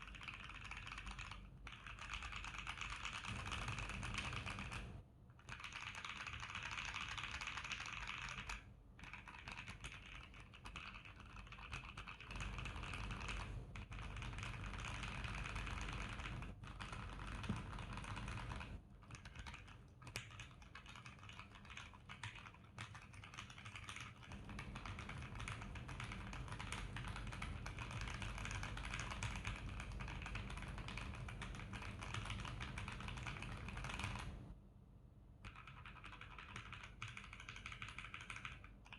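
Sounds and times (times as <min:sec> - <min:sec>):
mechanical keyboard typing: 0:00.0 - 0:34.4, 0:35.4 - 0:38.9.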